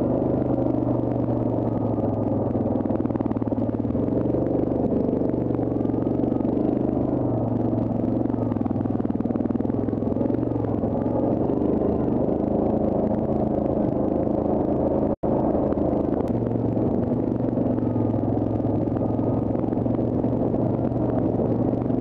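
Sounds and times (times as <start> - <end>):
atv engine running at low speed: 0.0 - 22.0.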